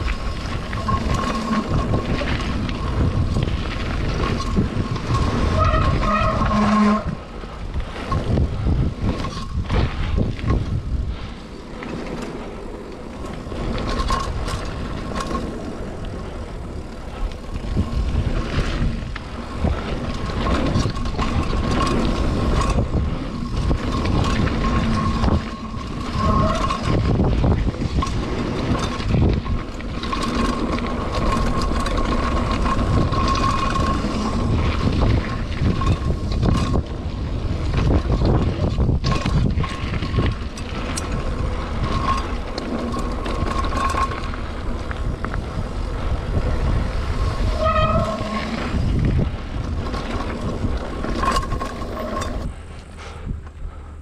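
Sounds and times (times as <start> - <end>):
bike rattling and knocking: 0.0 - 54.0
bike tyres rolling over stones: 0.0 - 54.0
wind rumble on microphone: 0.0 - 54.0.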